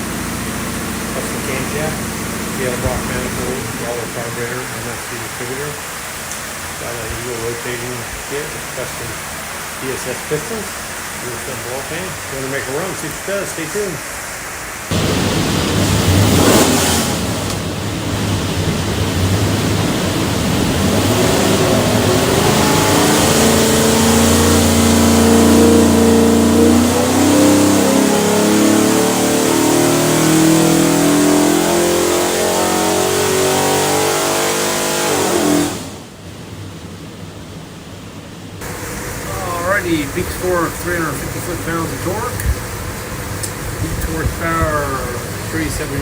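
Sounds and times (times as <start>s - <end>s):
engine revving at full throttle: 0.0s - 13.9s, 14.9s - 36.2s, 38.6s - 46.0s.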